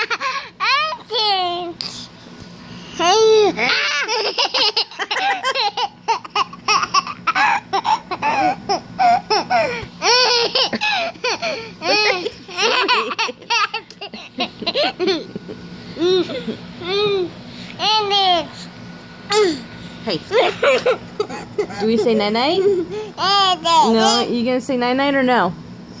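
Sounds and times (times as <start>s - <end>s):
toddler laughing and giggling: 0.0s - 1.8s, 3.0s - 18.6s, 19.3s - 19.6s, 20.3s - 24.3s.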